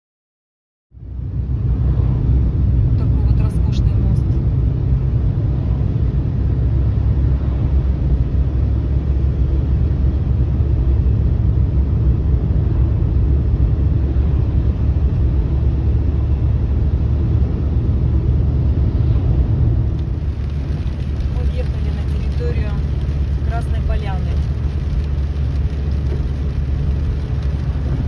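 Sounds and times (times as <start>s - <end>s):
car driving at speed: 1.0s - 28.0s.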